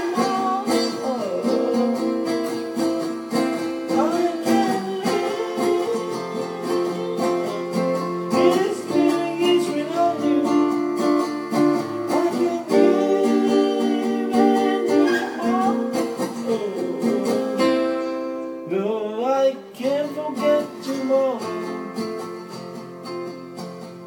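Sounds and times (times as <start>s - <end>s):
man singing: 0.0s - 22.5s
acoustic guitar strumming: 0.0s - 24.0s.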